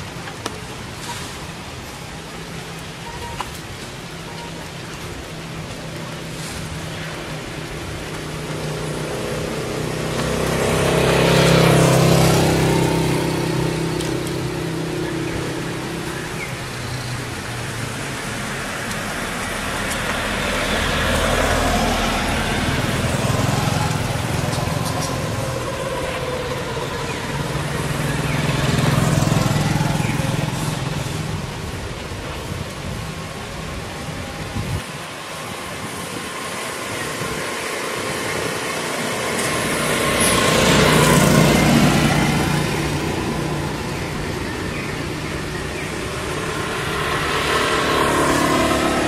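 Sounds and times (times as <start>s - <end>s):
light rain hiss: 0.0s - 48.7s
vehicles passing: 0.0s - 49.0s.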